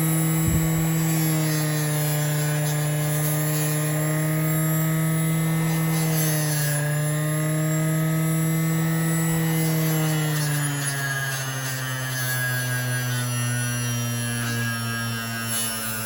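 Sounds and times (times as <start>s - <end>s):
bench buffer motor humming: 0.0s - 16.0s.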